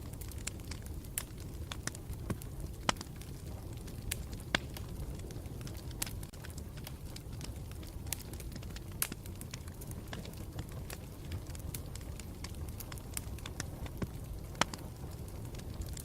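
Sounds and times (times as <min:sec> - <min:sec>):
campfire rumble: 0:00.0 - 0:16.0
fire crackles and pops: 0:00.0 - 0:16.0.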